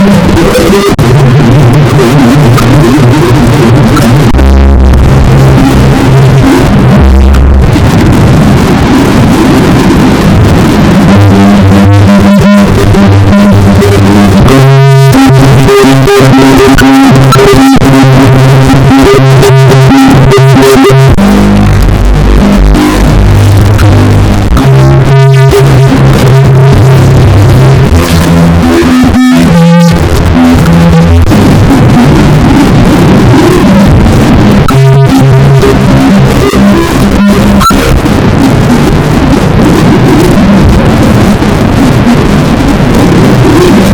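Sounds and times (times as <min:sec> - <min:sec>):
distorted synthesized sneeze chords: 0:00.0 - 0:43.9.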